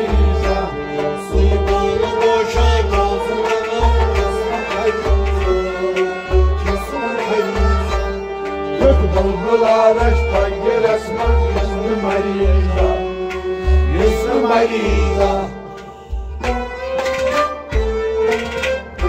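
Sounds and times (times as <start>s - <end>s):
bowed string melody: 0.0s - 19.0s.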